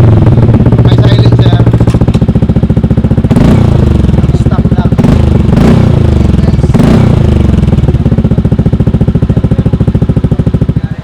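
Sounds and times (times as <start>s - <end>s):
scooter engine revving and idling: 0.0s - 11.0s.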